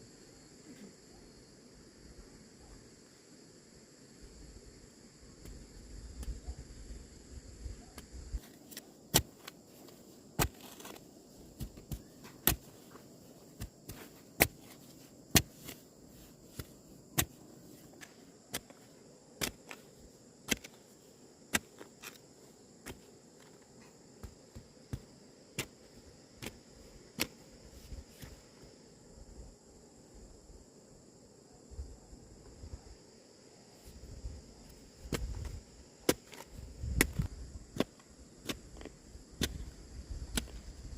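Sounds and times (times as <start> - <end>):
high drone of insects: 0.0 - 40.9.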